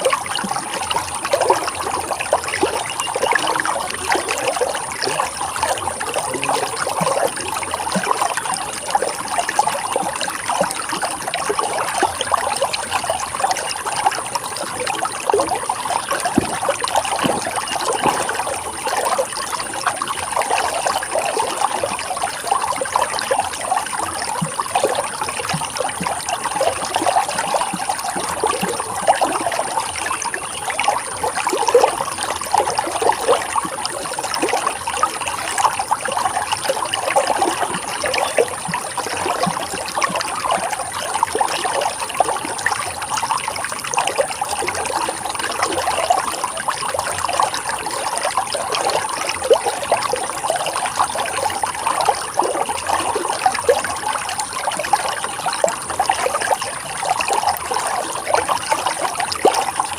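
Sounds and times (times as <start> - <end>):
running water babbling: 0.0 - 59.9.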